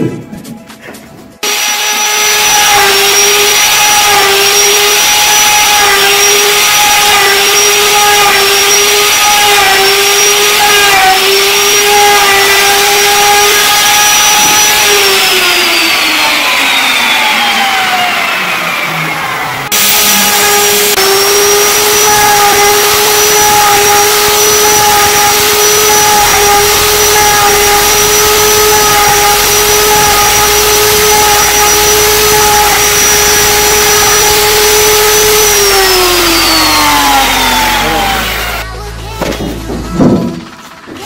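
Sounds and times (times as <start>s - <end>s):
router whining cutting wood: 1.4s - 41.0s.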